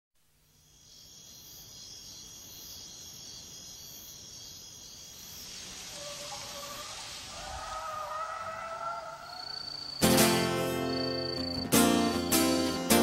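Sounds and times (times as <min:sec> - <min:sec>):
insects chirping: 0:00.2 - 0:13.0.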